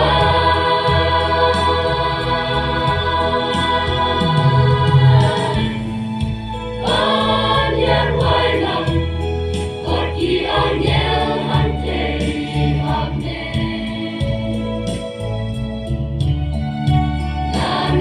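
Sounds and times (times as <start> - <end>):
choir singing a hymn: 0.0 - 15.0, 17.4 - 18.0
sustained organ-like keyboard: 0.0 - 18.0.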